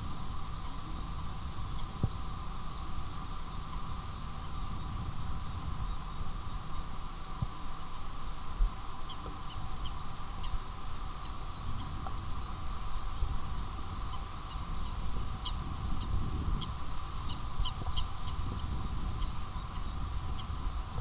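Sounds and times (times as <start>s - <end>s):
small birds chirping: 0.3s - 21.0s.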